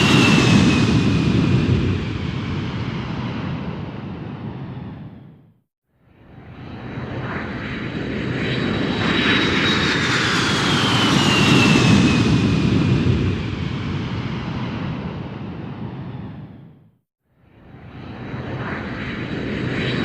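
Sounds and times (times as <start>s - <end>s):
airplane engine flyby: 0.0s - 20.0s.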